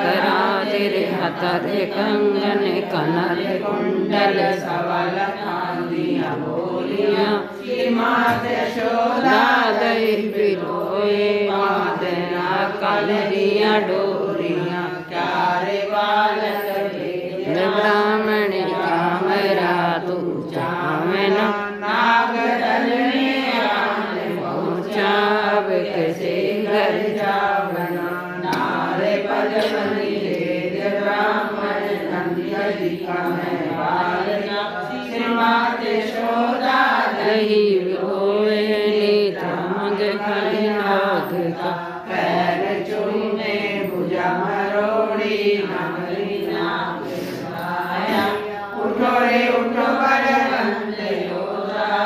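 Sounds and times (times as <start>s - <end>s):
women singing devotional song: 0.0s - 52.0s.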